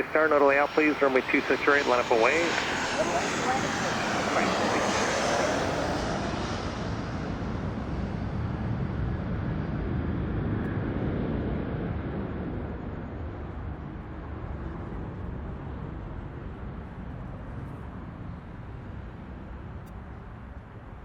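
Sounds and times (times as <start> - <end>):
jet aircraft engine rumble: 0.0 - 21.0.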